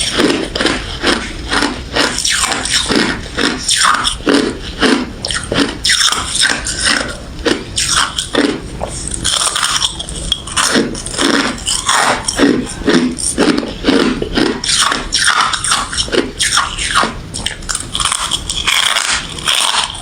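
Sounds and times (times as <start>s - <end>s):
chewing crushed ice: 0.0s - 20.0s.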